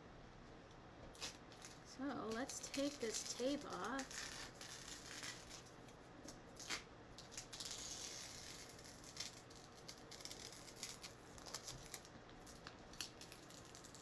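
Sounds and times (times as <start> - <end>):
tape being peeled off: 1.1 - 5.8, 6.6 - 14.0.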